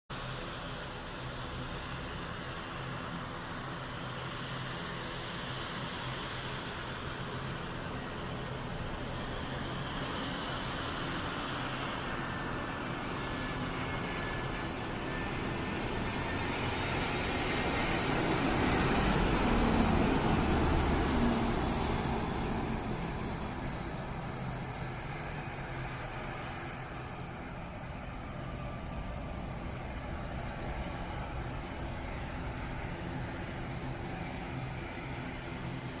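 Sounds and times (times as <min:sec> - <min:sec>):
jet airliner passing: 0:00.2 - 0:36.0
thin high engine whine: 0:00.2 - 0:36.0.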